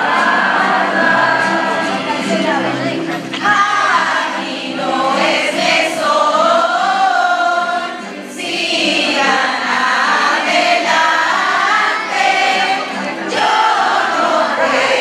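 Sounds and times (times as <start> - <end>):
children singing in chorus: 0.0 - 2.3, 3.3 - 15.0.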